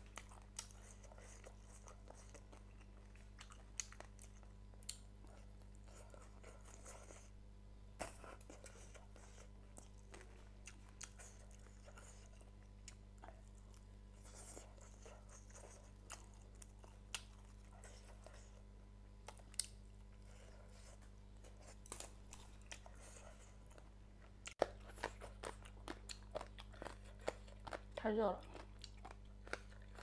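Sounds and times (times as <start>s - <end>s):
low steady hum: 0.0s - 30.0s
person chewing and crunching food: 0.0s - 30.0s.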